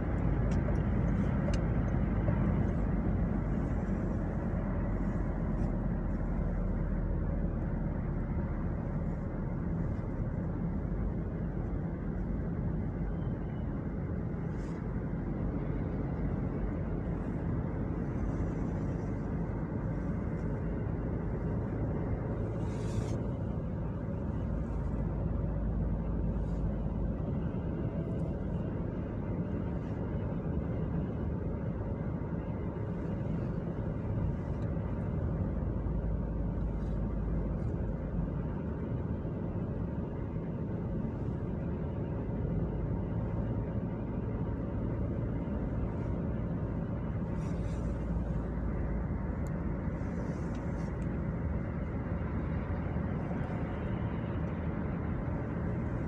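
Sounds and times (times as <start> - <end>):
road and engine noise in car: 0.0 - 56.0.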